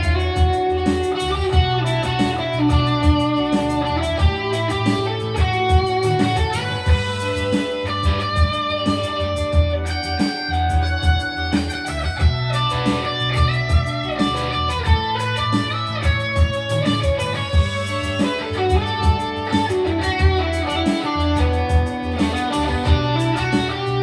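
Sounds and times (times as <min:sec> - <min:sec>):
electric guitar instrumental music: 0:00.0 - 0:24.0.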